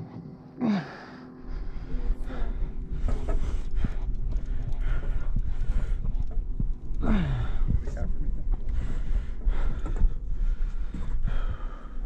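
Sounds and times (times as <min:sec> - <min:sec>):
wind buffeting microphone: 0:01.5 - 0:12.0.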